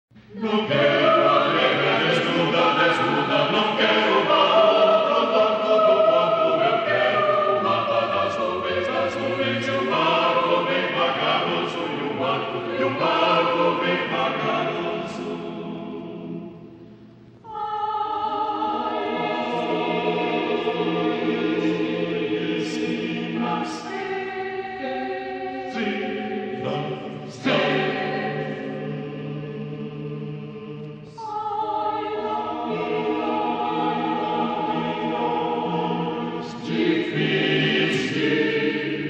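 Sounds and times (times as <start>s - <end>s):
choir singing chords: 0.1s - 39.0s.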